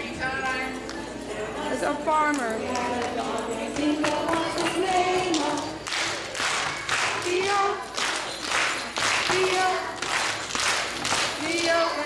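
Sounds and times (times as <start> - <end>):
children singing together: 1.2 - 12.0
hand clapping: 2.3 - 12.0.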